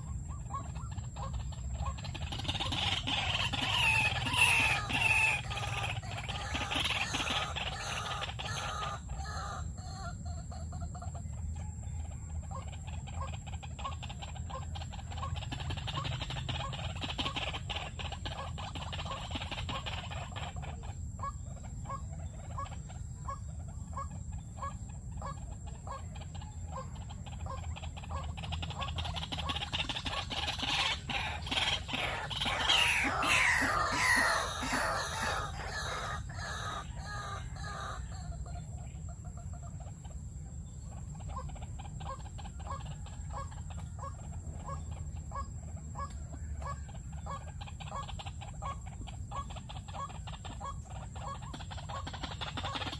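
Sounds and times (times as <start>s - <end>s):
waterhens clucking calls: 0.0s - 52.9s.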